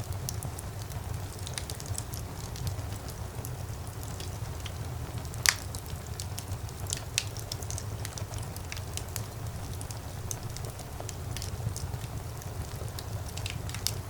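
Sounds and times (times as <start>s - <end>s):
fire crackling: 0.0s - 14.0s
low rumble of flames: 0.0s - 14.0s
fire pops: 0.1s - 14.0s.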